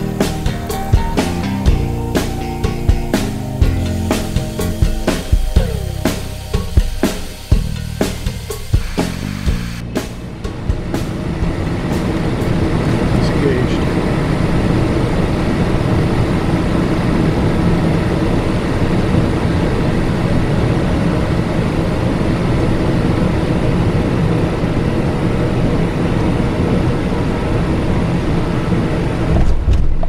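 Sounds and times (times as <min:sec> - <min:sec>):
faint engine whine: 0:00.0 - 0:29.7
jet cockpit airflow and engine rush: 0:00.0 - 0:29.7.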